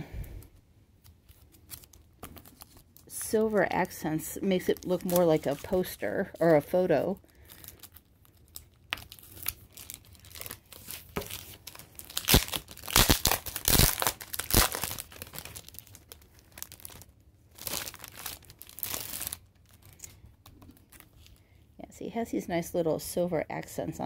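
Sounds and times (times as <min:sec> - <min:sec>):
plastic wrapping crinkling: 0:00.3 - 0:21.5.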